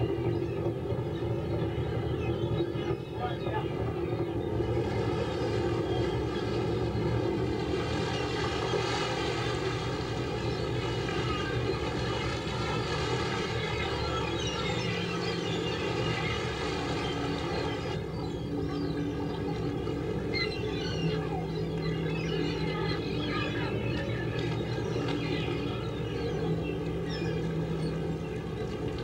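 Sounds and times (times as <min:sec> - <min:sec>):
gull calls: 0:00.0 - 0:28.8
boat engine running: 0:00.0 - 0:29.0.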